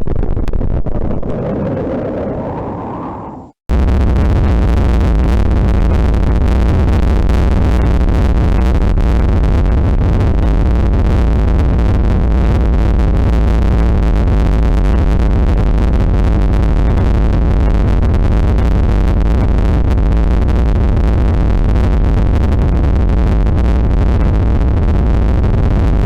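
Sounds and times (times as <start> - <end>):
heavy low rumble: 1.0 - 25.8.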